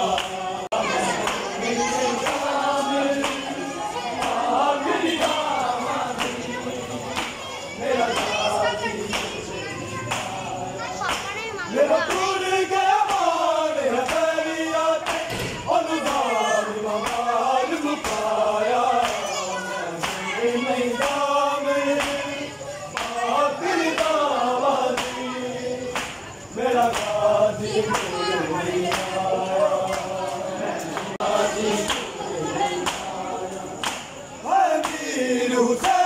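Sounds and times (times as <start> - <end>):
men chanting in unison: 0.0 - 36.0.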